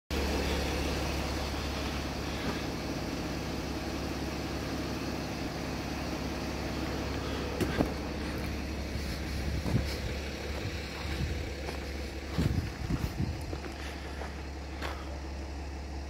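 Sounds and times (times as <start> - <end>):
car engine idling: 0.1 - 16.0.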